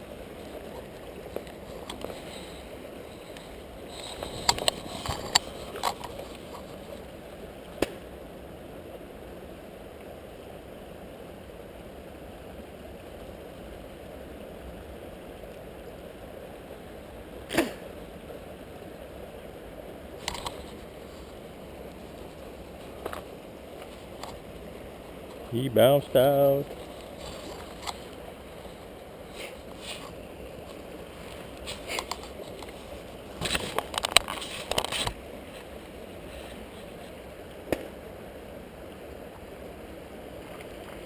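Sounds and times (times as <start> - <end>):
creek water rushing over rock: 0.0 - 41.0.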